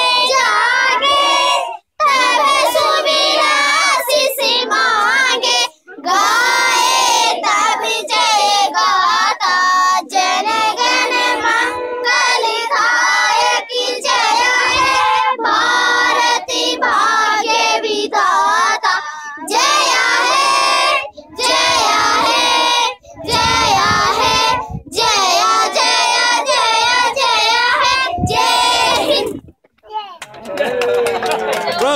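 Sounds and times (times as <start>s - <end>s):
children singing unaccompanied: 0.0s - 29.5s.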